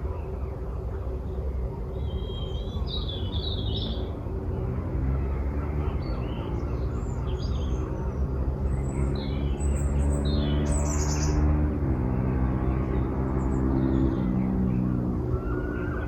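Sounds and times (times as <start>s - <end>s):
low engine hum: 0.0s - 16.0s
small birds chirping: 0.0s - 16.0s.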